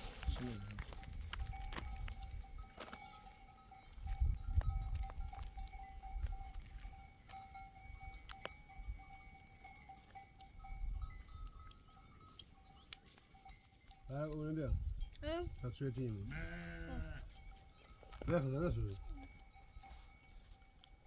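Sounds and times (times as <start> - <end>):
animal bells clanking and ringing: 0.0 - 21.0.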